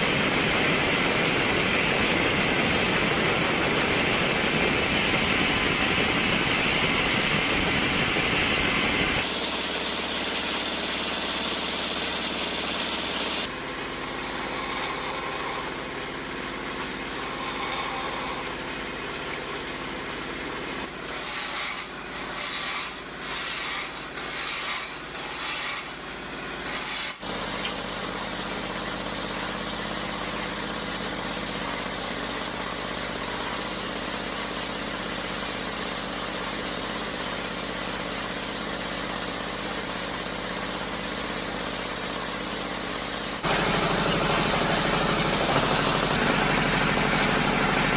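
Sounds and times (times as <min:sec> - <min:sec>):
woodworking machine rasping: 0:00.0 - 0:09.3, 0:11.2 - 0:15.9, 0:17.1 - 0:18.6, 0:21.0 - 0:47.9.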